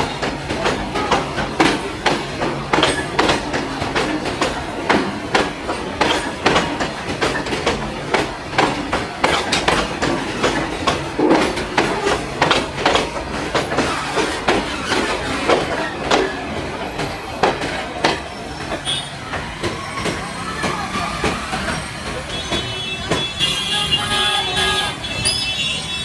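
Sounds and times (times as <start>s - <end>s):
freight train rumble: 0.0s - 26.0s
train wheels clacking over rail joints: 0.0s - 26.0s.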